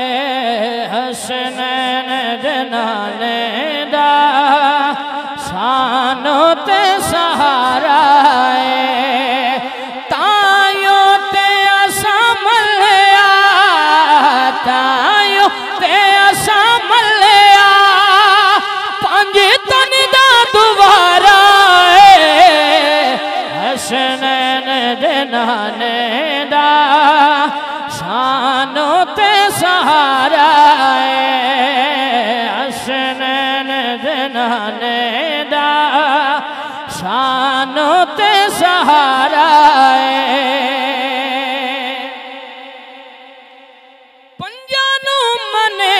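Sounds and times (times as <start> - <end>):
man singing into a microphone: 0.0 - 45.9.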